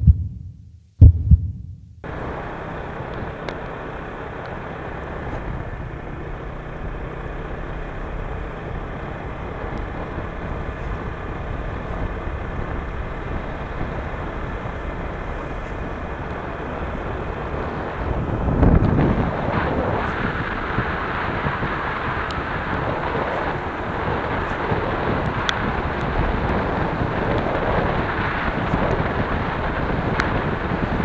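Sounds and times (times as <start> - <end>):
car road and engine noise: 2.0 - 31.0.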